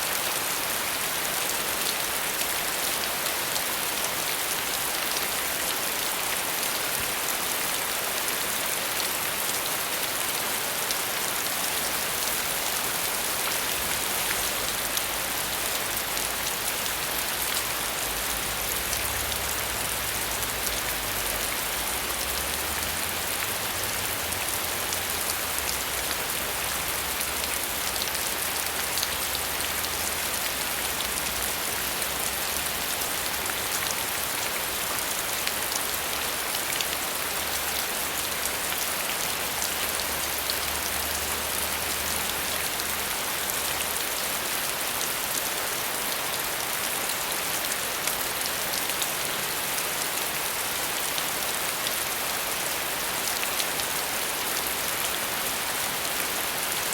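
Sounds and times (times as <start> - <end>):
rain falling: 0.0 - 56.9
rain patter on a surface: 0.0 - 56.9.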